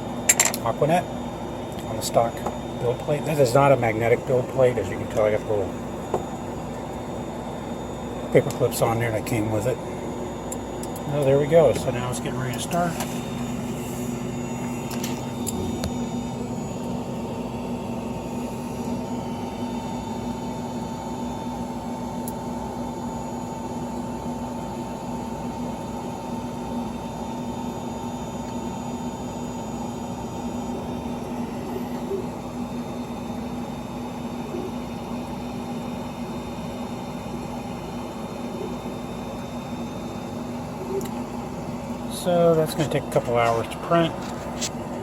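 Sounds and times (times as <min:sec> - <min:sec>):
printer fans humming: 0:00.0 - 0:45.0.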